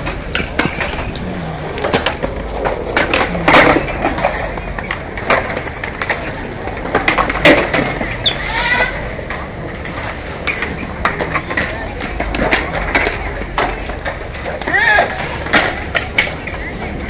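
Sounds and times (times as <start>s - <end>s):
skateboard wheels rumbling: 0.0s - 17.0s.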